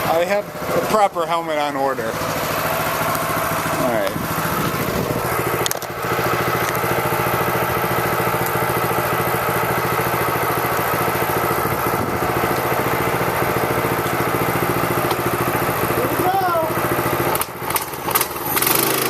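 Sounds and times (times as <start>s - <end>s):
mini bike engine idling: 0.0s - 19.0s.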